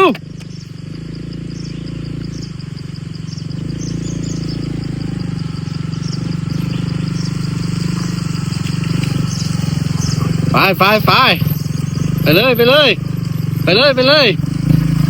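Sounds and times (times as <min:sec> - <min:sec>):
insects chirping: 0:00.0 - 0:15.0
motorcycle engine under load: 0:00.0 - 0:15.0.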